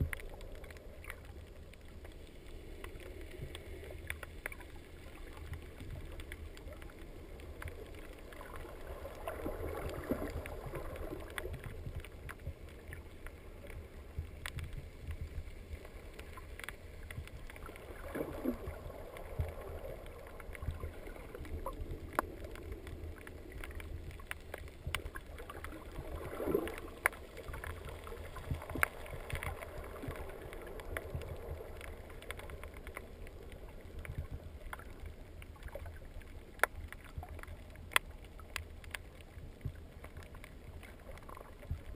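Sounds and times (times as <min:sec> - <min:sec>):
underwater low rumble: 0:00.0 - 0:41.9
watery noise: 0:00.0 - 0:41.9.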